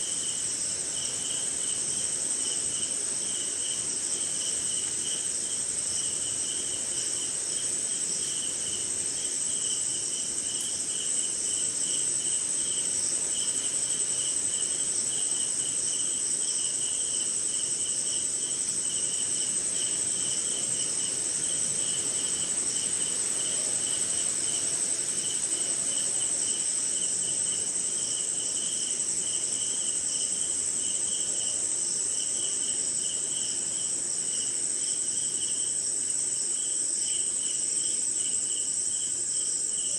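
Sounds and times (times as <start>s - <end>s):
high-pitched cricket trill: 0.0s - 39.9s
low pulsing insect chirping: 0.0s - 39.9s.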